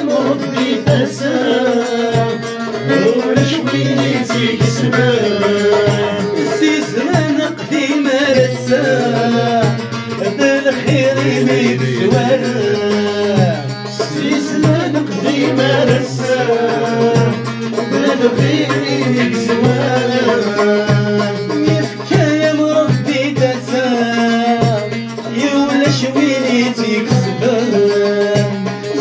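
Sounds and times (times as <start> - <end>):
men singing: 0.0 - 29.0
plucked string instruments: 0.0 - 29.0.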